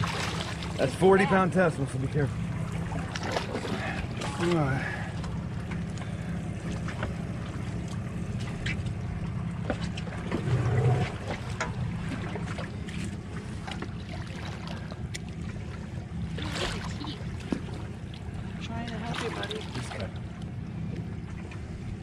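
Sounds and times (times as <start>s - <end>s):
boat engine idling: 0.0s - 22.0s
water splashing against hull: 0.0s - 22.0s.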